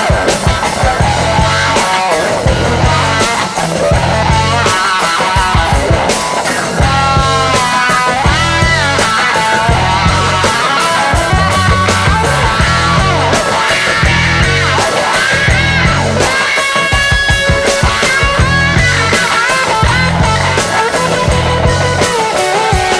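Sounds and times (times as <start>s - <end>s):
electric guitar lead: 0.0s - 22.9s
heavy pulsing bass line: 0.0s - 22.9s.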